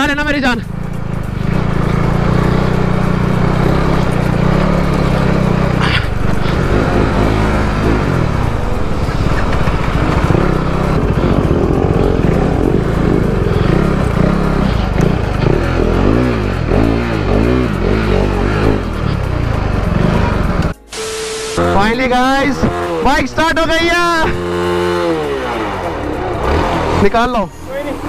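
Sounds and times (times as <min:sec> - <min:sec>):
motorcycle engine running: 0:00.0 - 0:20.8, 0:21.7 - 0:28.0.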